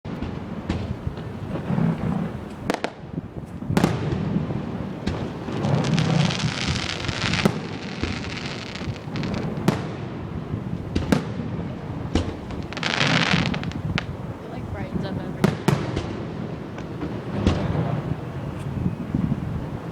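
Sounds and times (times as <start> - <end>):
fireworks bangs: 0.1 - 19.9
fireworks crackling: 0.1 - 19.9.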